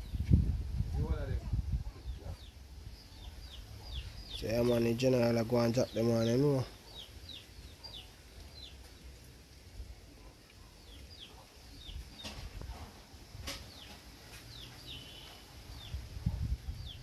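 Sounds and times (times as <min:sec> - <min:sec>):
birds peeping: 0:01.8 - 0:09.4, 0:10.1 - 0:17.0.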